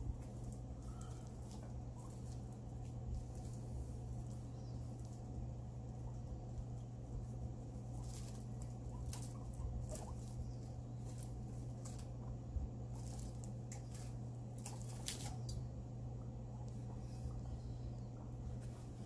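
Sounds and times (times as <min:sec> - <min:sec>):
guinea pig chewing: 0:00.0 - 0:19.0
low steady hum: 0:00.0 - 0:19.0.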